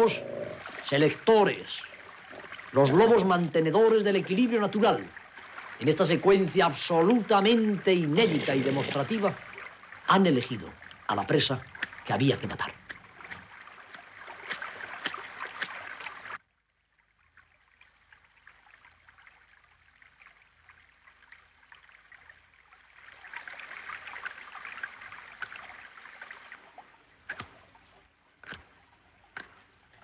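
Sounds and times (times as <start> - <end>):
stream splashing over stones: 0.0 - 16.5, 17.1 - 30.0.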